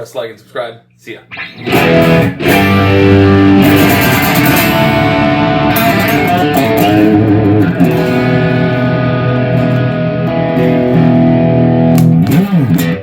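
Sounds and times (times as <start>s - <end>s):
electric guitar chord strummed: 1.3s - 13.0s
electric guitar notes ringing: 1.3s - 13.0s.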